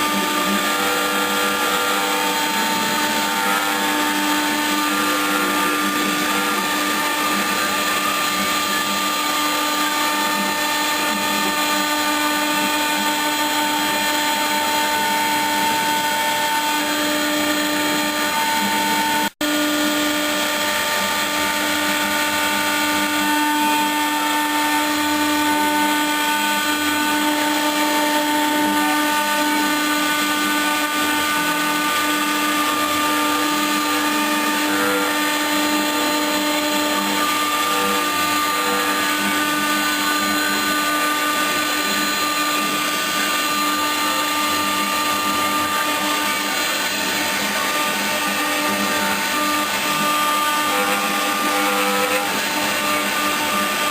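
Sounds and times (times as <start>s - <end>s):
router spindle whining: 0.0s - 53.9s.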